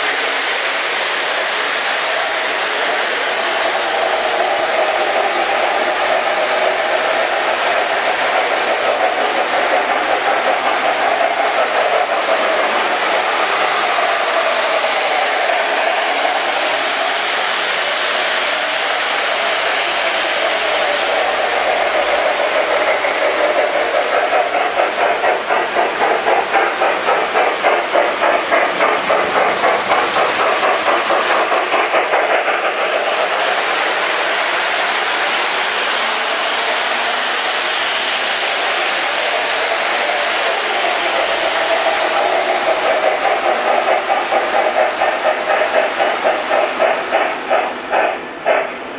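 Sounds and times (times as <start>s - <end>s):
model train whir and rumble: 0.0s - 48.9s
rhythmic pulsing: 0.2s - 48.8s.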